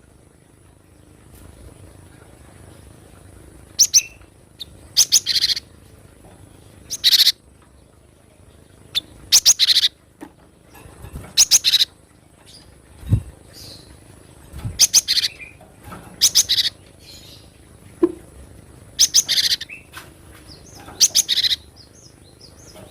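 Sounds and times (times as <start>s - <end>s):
bird chirping and rattling: 2.7s - 8.0s, 8.9s - 22.9s.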